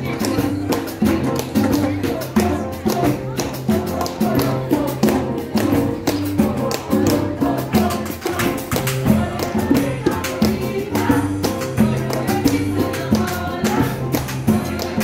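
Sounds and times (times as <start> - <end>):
live band playing upbeat music: 0.0 - 15.0.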